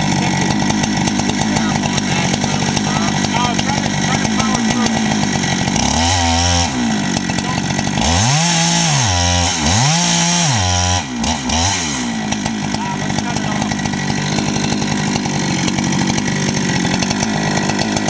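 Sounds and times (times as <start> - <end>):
chainsaw cutting through log: 0.0 - 18.0.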